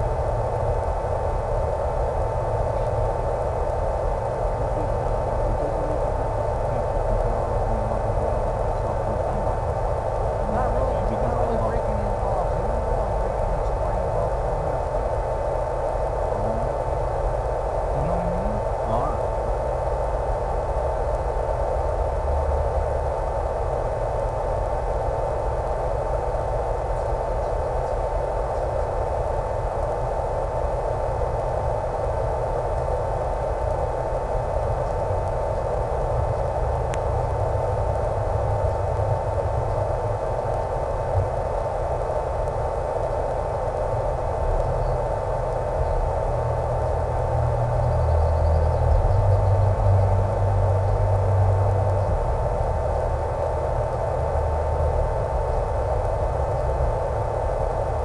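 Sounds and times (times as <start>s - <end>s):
constant hum tone: 0.0s - 58.0s
static hiss: 0.0s - 58.0s.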